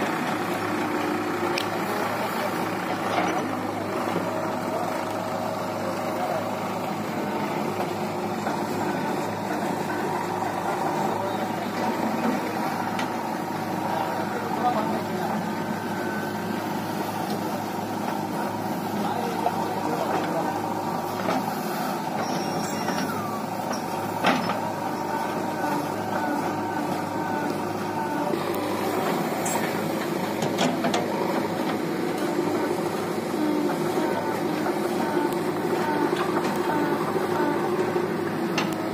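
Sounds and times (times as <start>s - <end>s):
backhoe loader diesel engine: 0.0s - 38.9s
tractor diesel engine idling: 0.0s - 38.9s.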